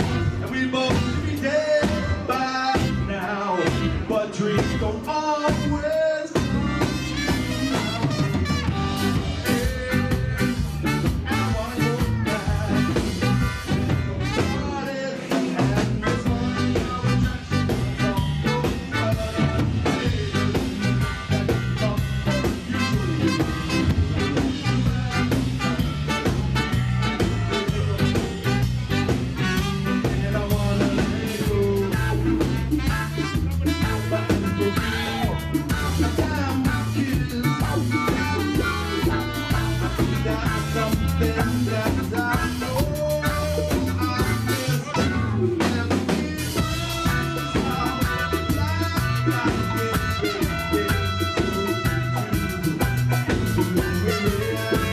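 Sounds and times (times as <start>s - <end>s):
live ska band playing: 0.0s - 54.9s.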